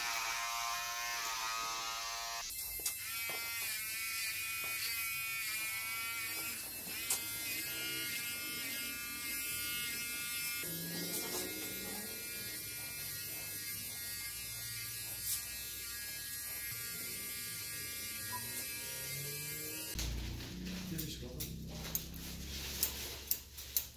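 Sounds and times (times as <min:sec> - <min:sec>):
electric hair clippers buzzing: 0:00.0 - 0:23.4.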